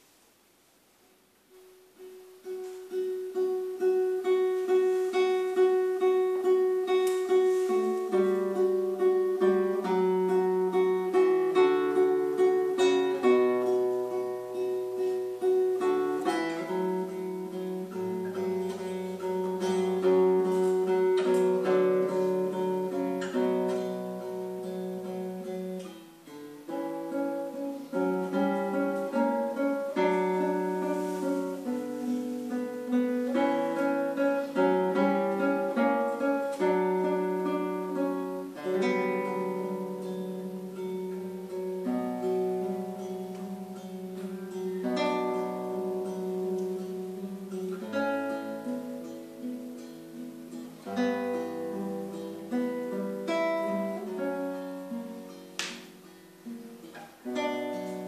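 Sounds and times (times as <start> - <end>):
classical guitar fingerpicked: 0.0 - 58.0.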